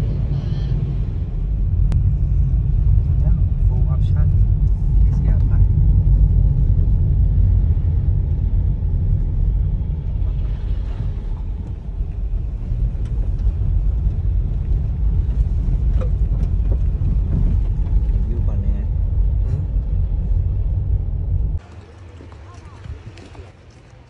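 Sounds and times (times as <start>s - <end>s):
car engine rumble: 0.0s - 24.0s.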